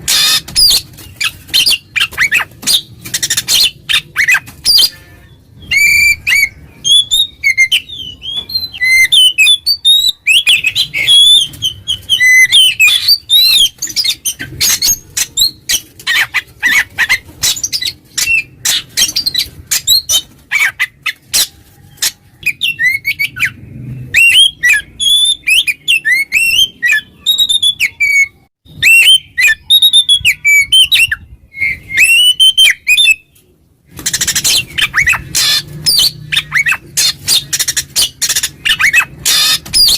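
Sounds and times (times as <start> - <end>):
bird singing: 0.0 - 33.4.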